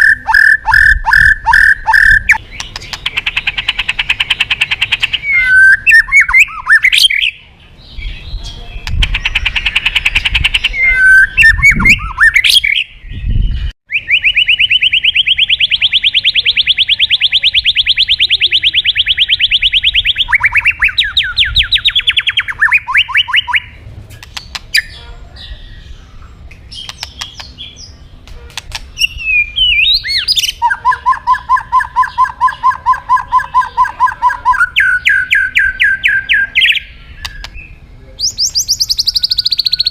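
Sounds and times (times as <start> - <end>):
songbird singing whistled phrases: 0.0 - 26.0, 28.8 - 39.9.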